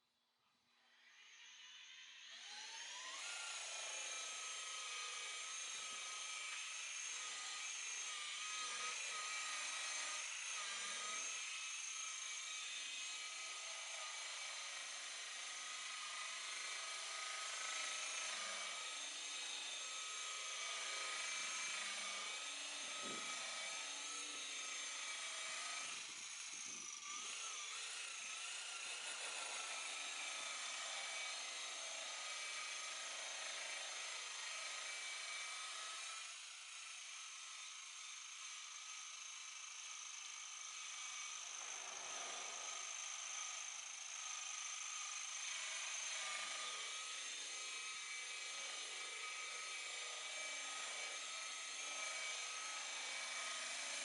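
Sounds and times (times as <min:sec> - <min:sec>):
polisher motor whining: 0:01.2 - 0:54.0.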